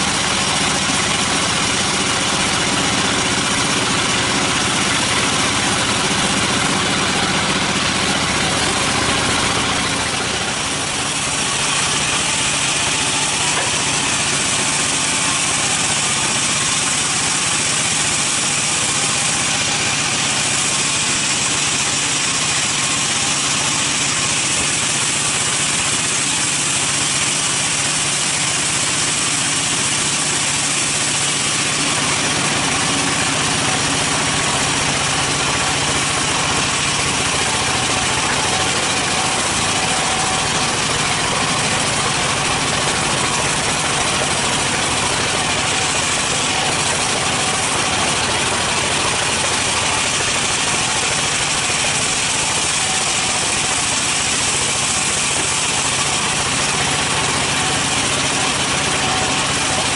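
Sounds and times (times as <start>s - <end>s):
band saw humming: 0.0s - 59.9s
saw cutting wood hiss: 0.0s - 59.9s.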